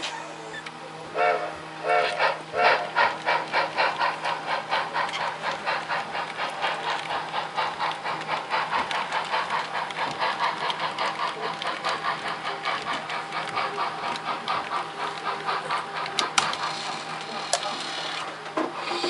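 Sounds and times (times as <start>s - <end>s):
model steam locomotive chuffing: 0.0s - 19.0s.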